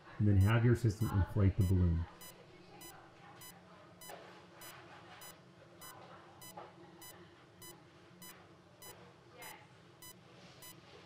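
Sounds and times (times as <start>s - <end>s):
patient monitor beeping: 0.2s - 10.9s.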